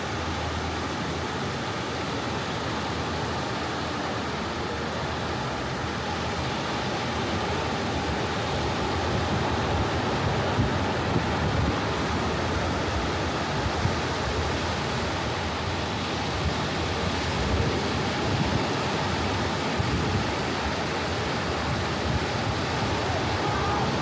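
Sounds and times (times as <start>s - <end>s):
ocean waves washing onto beach: 0.0s - 24.0s.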